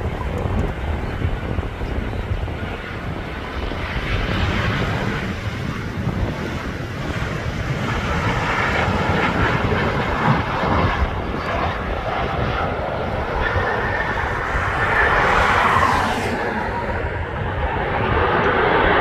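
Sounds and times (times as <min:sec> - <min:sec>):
jet engines running: 0:00.0 - 0:19.0
wind buffeting microphone: 0:00.0 - 0:19.0.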